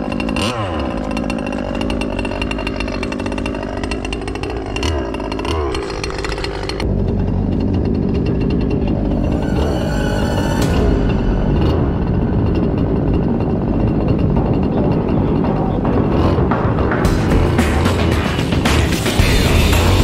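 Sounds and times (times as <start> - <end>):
engine throttle blips: 0.0 - 20.0
two-stroke engine idling: 0.0 - 20.0.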